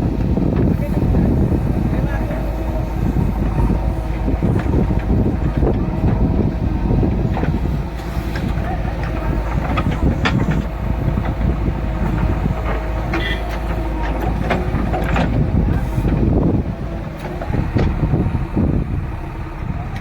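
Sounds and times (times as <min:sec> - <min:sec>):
diesel engine rumbling: 0:00.0 - 0:20.0
machinery clanks and knocks: 0:00.1 - 0:18.9.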